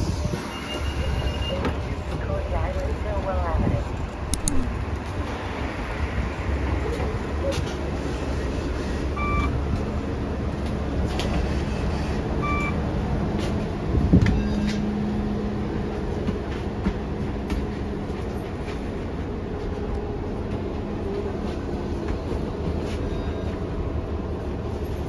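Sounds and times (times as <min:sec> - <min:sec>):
diesel bus rumble: 0:00.0 - 0:25.0.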